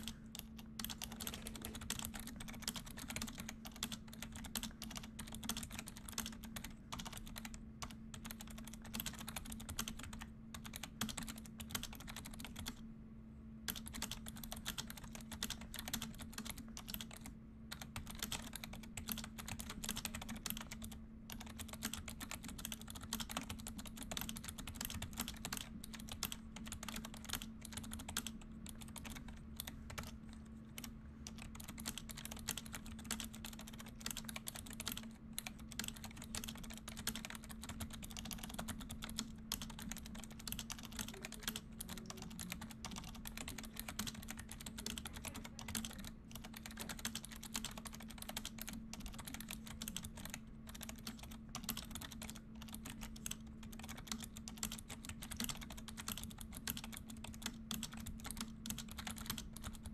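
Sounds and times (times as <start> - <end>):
keyboard typing clicks: 0.0 - 12.8, 13.7 - 59.9.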